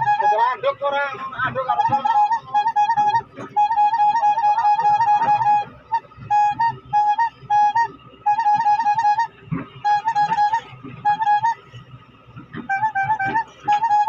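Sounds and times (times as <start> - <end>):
excavator signal horn tone: 0.0 - 0.5, 1.7 - 11.6, 12.6 - 14.0.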